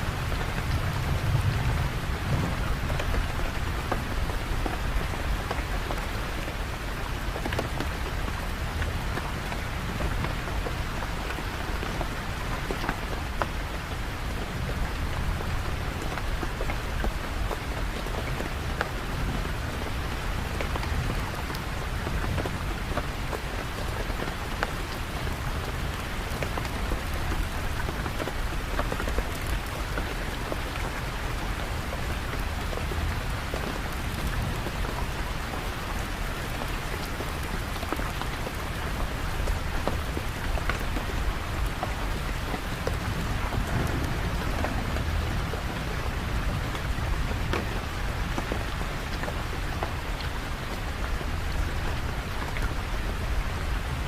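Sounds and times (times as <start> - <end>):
steady rain hiss: 0.0 - 54.0
raindrops ticking: 2.7 - 53.8.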